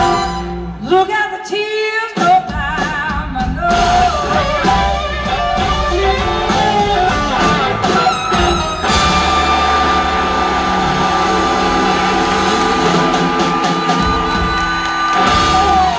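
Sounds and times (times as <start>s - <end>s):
live blues rock band: 2.2s - 15.9s.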